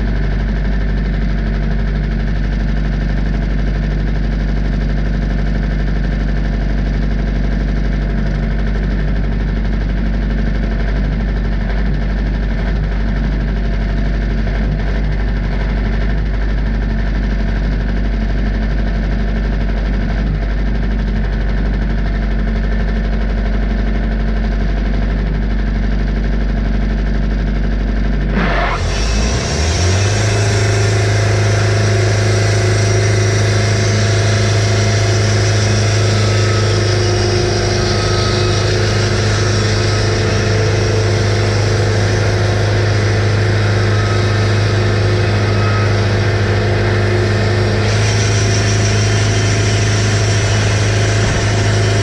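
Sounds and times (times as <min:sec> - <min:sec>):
bandsaw mill engine drone: 0:00.0 - 0:52.0.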